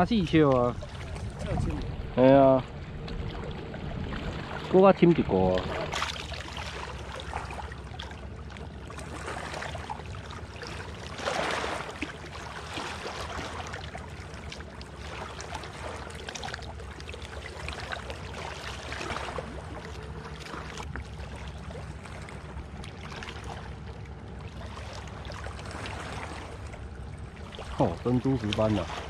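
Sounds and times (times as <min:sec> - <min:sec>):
small water splashes: 0:00.0 - 0:29.0
water lapping at shore: 0:00.0 - 0:29.0.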